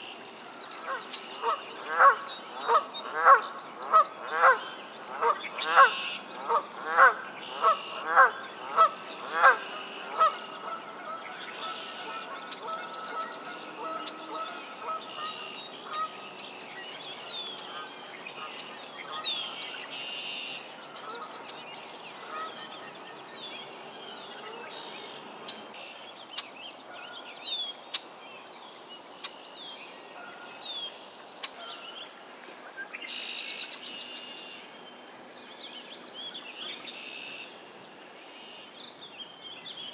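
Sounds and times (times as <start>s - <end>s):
songbirds chirping and whistling: 0.0s - 37.6s.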